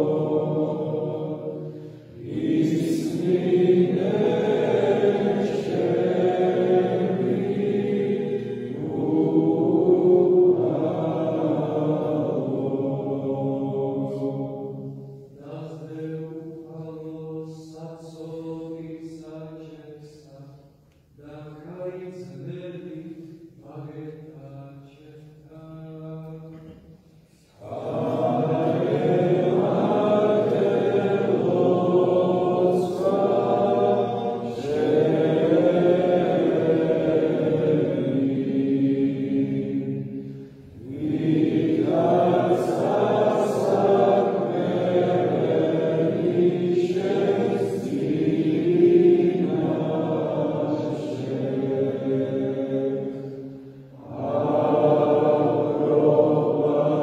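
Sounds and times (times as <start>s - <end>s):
choir chanting unaccompanied: 0.0s - 20.6s, 21.2s - 57.0s.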